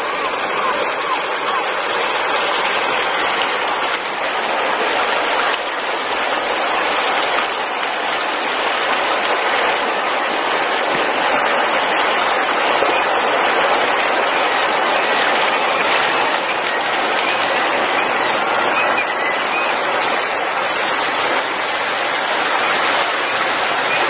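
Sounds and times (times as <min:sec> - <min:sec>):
shallow water flowing across road: 0:00.0 - 0:24.0.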